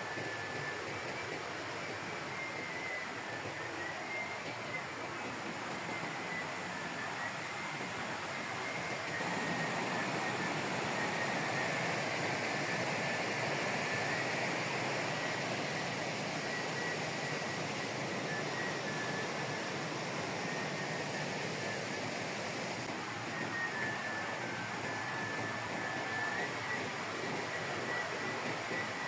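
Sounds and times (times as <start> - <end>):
mountain stream rushing: 0.0 - 29.0.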